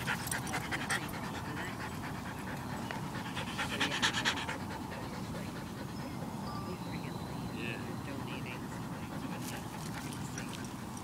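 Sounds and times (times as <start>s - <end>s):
dog panting: 0.0s - 6.8s, 8.0s - 11.0s.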